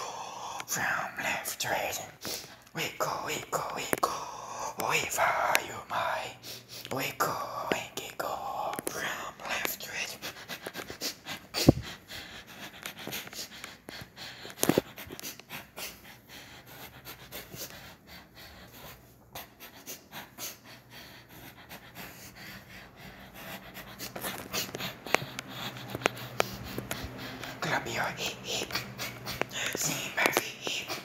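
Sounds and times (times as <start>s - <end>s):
person breathing hard: 0.0s - 31.0s.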